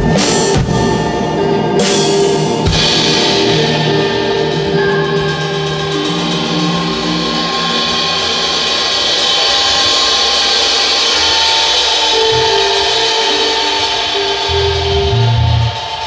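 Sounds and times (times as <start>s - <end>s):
band music with held notes: 0.0s - 16.0s
low notes: 0.0s - 16.0s.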